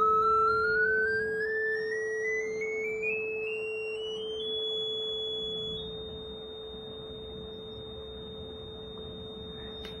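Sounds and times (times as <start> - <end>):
high electronic whistle: 0.0 - 10.0
steady low electronic tone: 0.0 - 10.0.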